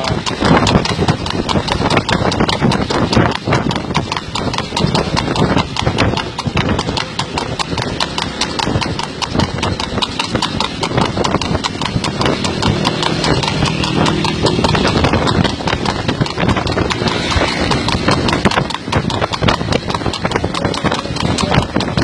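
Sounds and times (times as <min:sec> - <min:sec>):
hooves clip-clopping on road: 0:00.0 - 0:22.0.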